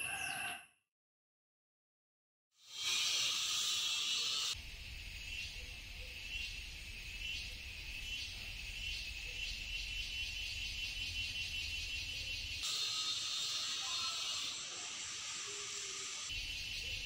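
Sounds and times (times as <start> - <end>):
insects chirring: 3.0 - 17.0.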